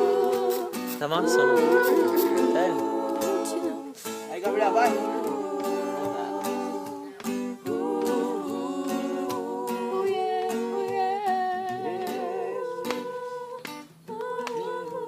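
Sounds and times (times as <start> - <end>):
guitar strumming: 0.0 - 13.9
people singing a worship song: 0.0 - 15.0.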